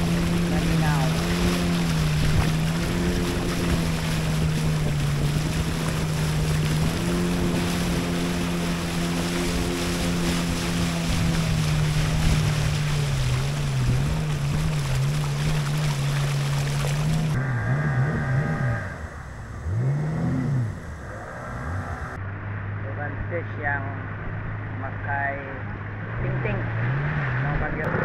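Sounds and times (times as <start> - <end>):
outboard motor droning: 0.0 - 28.0
water rushing along hull: 0.0 - 28.0.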